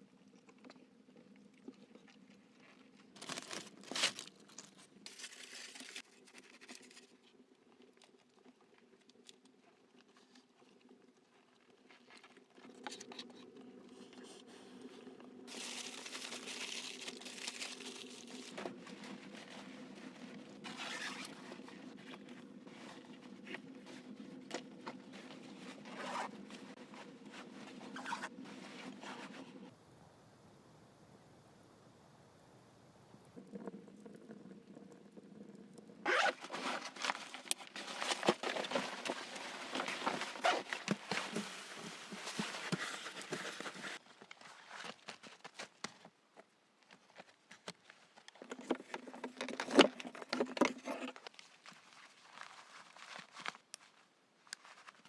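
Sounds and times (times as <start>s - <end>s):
crunching and rustling handling noises: 0.4s - 29.5s, 36.1s - 55.0s.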